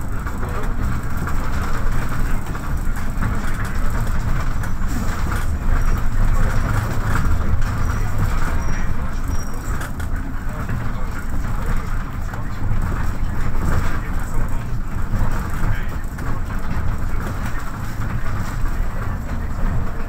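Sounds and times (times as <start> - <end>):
bus diesel engine drone: 0.0 - 20.0
road rumble: 0.0 - 20.0.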